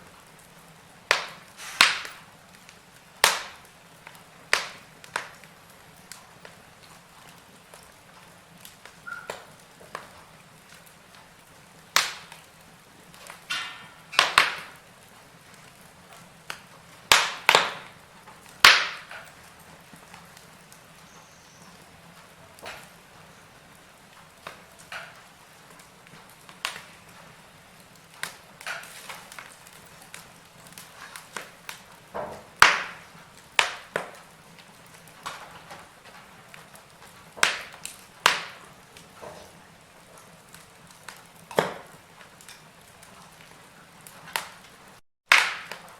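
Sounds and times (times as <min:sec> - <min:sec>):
faint steady hiss: 0:00.0 - 0:45.0
fire crackling and popping: 0:00.0 - 0:45.9.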